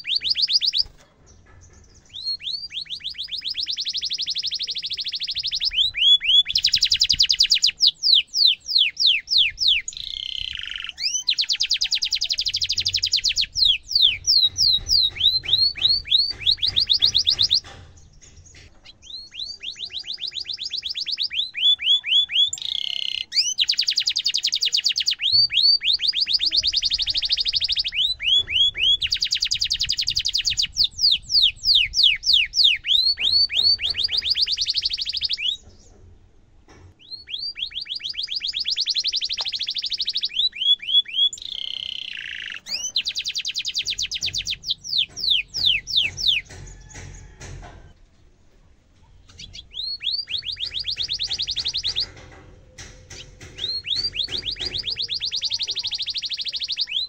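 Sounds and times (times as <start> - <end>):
canary singing trills: 0.0 - 36.0, 36.9 - 47.5, 49.0 - 57.0.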